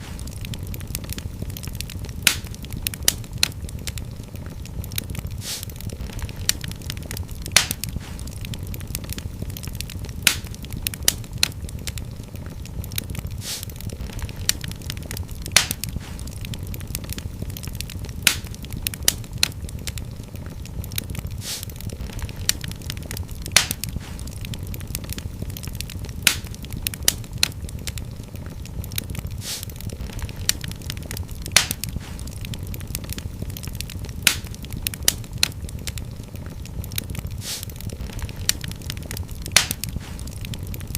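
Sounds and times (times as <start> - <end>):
fireplace fire crackling: 0.0 - 40.9
low rumble of flames: 0.0 - 40.9
sharp fire pops: 0.0 - 40.9.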